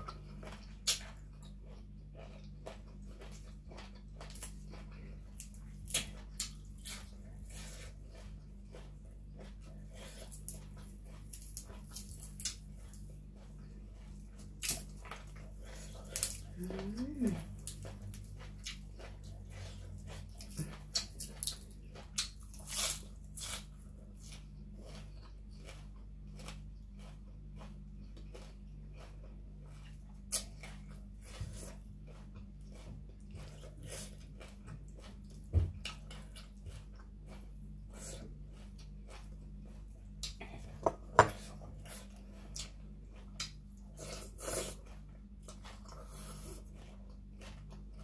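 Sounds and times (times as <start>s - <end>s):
person chewing leafy greens: 0.0s - 48.0s
steady low hum: 0.0s - 48.0s.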